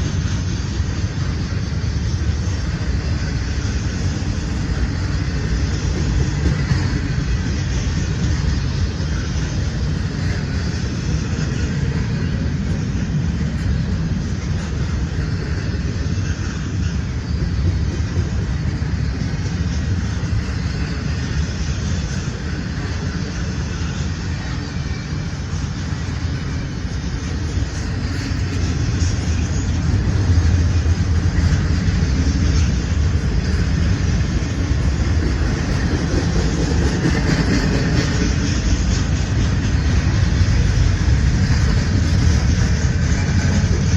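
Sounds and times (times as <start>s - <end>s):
freight train rumbling on rails: 0.0s - 43.9s.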